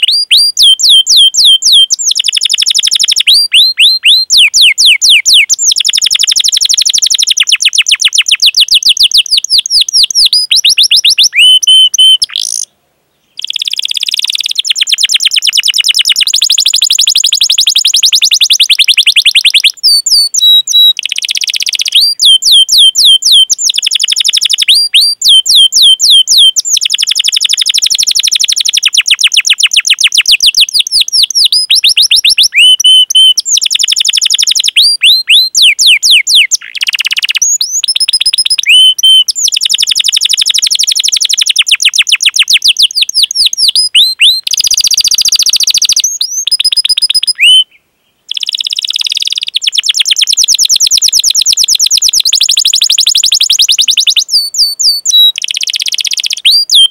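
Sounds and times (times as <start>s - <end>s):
canary singing: 0.0s - 12.7s, 13.3s - 56.9s.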